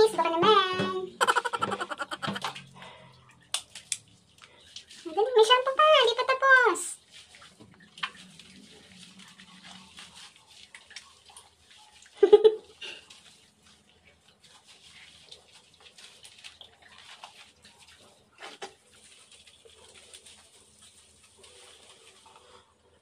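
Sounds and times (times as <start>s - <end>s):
wet soapy fur squishing: 0.0s - 23.0s.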